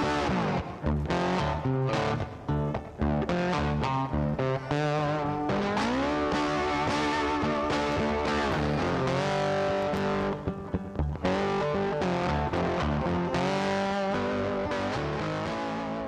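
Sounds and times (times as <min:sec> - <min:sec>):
bass: 0:00.0 - 0:16.0
distorted electric guitar music: 0:00.0 - 0:16.0.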